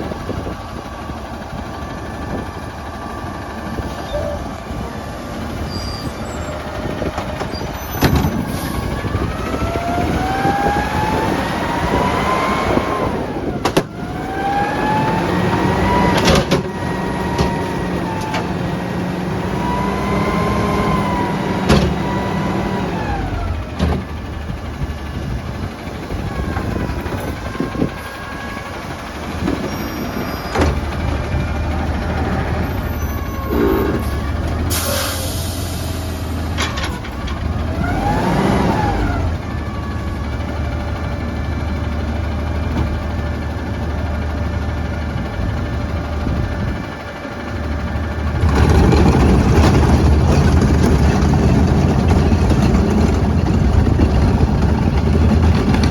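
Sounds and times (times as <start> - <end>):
garbage truck engine revving: 1.3 - 55.9.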